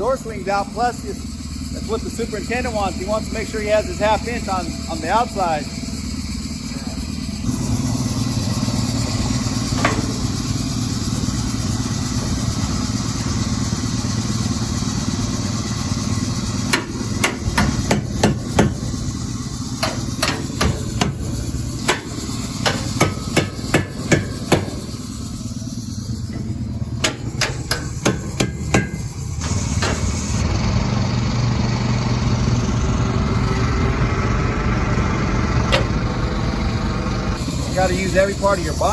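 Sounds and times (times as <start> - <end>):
low engine drone: 0.0 - 38.9.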